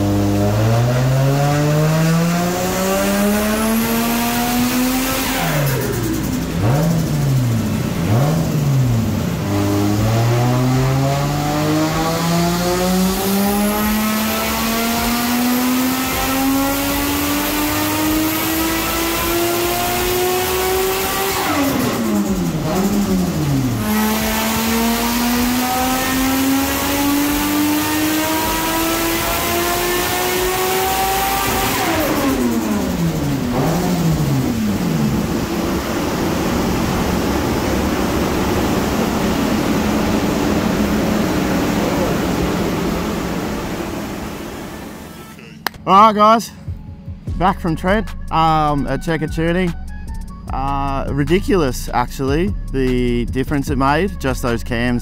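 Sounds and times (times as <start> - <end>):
car engine revving on dyno: 0.0 - 45.5.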